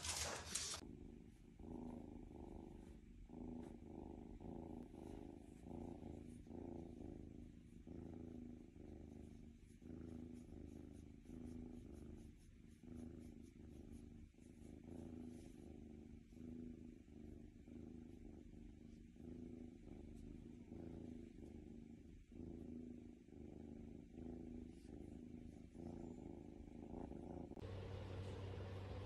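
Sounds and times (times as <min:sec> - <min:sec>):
kitten purring: 0:00.0 - 0:29.0.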